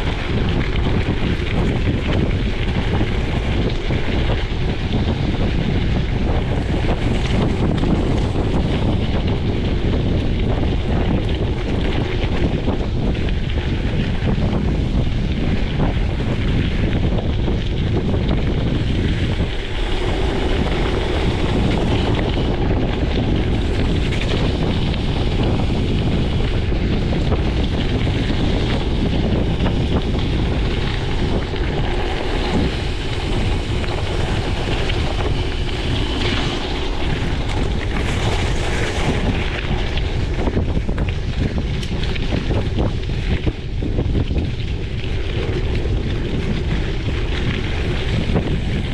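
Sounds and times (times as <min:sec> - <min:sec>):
wind rumbling on microphone: 0:00.0 - 0:48.9.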